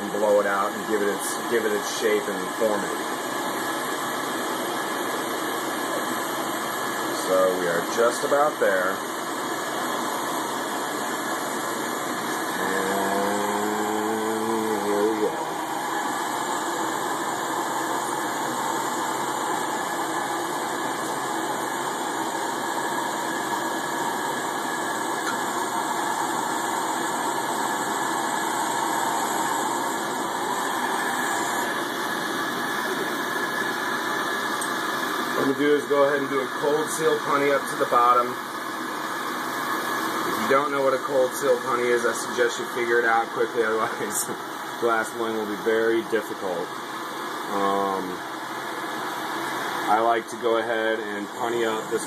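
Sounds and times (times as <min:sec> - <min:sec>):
torch flame rushing hiss: 0:00.0 - 0:52.0.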